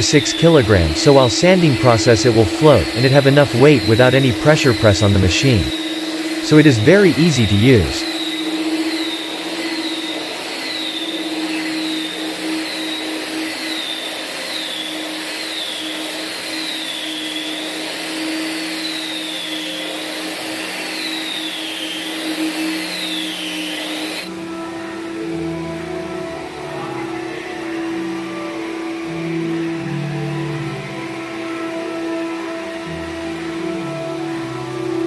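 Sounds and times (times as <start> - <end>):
floor sander droning with whine: 0.0 - 35.0
music: 0.0 - 35.0.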